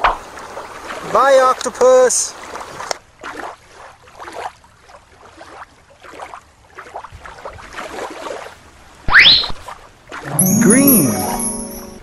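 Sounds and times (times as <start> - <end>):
small waves lapping on sand: 0.2 - 10.3.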